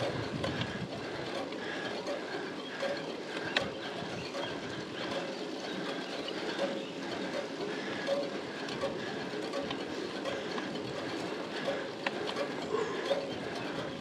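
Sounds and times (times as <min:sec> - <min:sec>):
rhythmic pedalling sound: 0:00.0 - 0:14.0.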